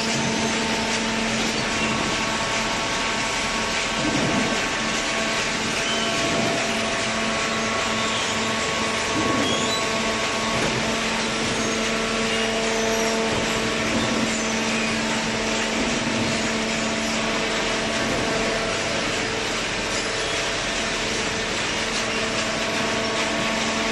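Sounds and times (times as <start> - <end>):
hydraulic baler running: 0.0 - 23.9.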